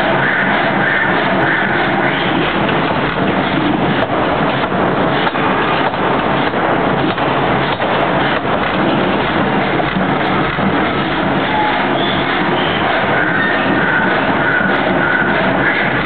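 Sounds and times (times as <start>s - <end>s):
forging machinery din: 0.0s - 16.0s.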